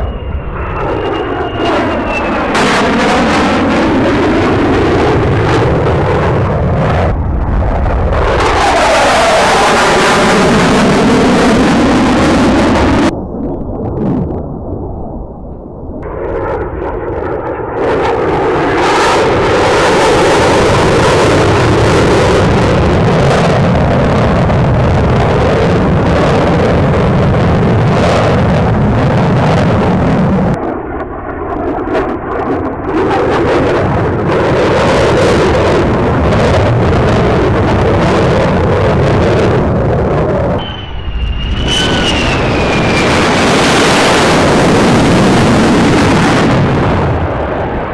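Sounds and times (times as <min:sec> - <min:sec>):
jet engine roaring flyby: 0:00.0 - 0:47.9.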